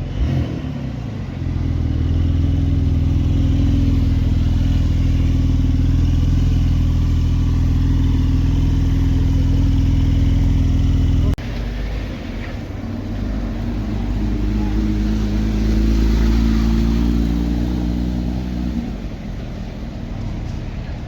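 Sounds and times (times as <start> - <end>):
vehicle engine running steadily: 0.0 - 21.0.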